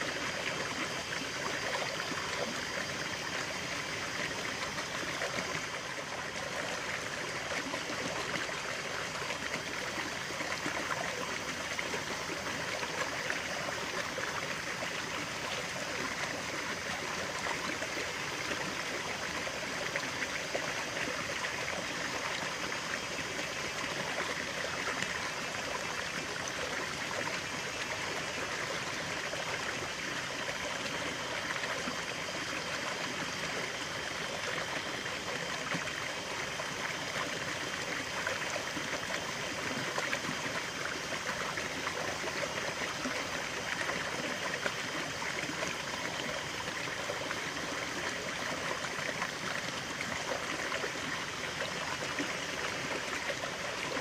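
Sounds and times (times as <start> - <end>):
stream of running water: 0.0 - 54.0.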